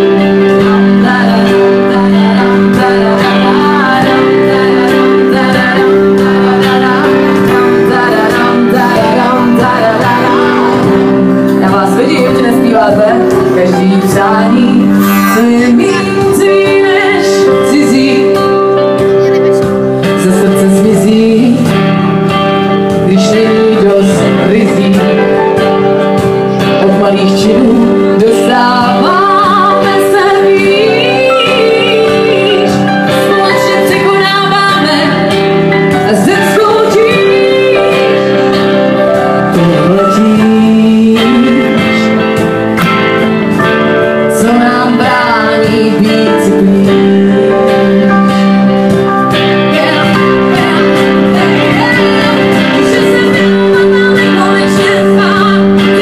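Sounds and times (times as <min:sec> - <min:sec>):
woman singing: 0:00.0 - 0:19.0, 0:19.6 - 0:56.0
electric bass: 0:00.0 - 0:56.0
electric guitar: 0:00.0 - 0:56.0.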